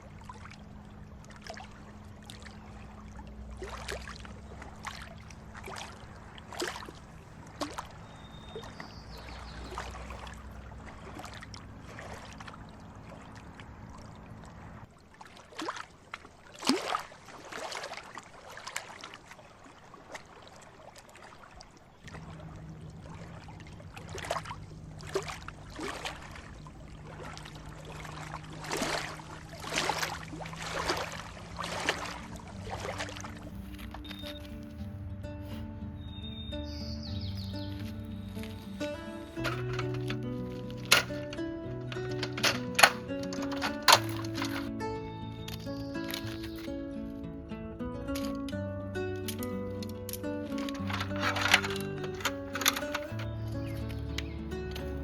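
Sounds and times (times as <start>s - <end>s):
low steady hum: 0.0s - 15.0s, 21.9s - 55.0s
water splashing: 0.0s - 35.8s, 36.8s - 46.8s, 48.1s - 55.0s.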